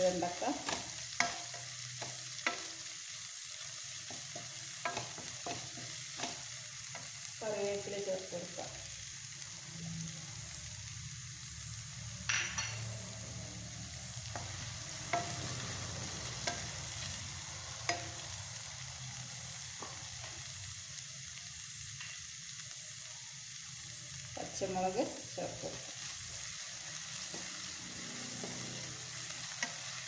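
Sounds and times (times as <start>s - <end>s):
okra sizzling in a pan: 0.0s - 30.0s.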